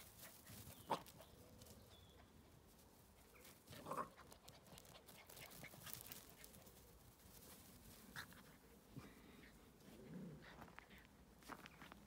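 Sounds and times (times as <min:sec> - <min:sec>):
faint rustling: 0:00.0 - 0:12.0.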